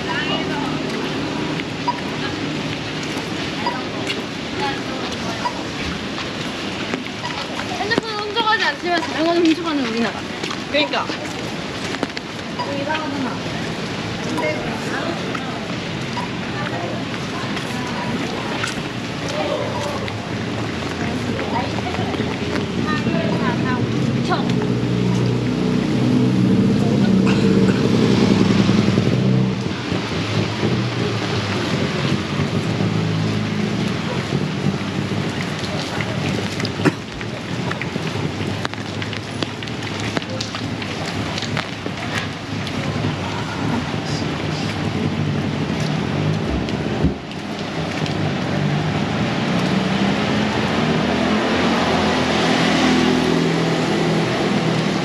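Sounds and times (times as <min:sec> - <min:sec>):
heavy rain pouring: 0:00.0 - 0:55.0
vehicle engine humming: 0:00.0 - 0:55.0.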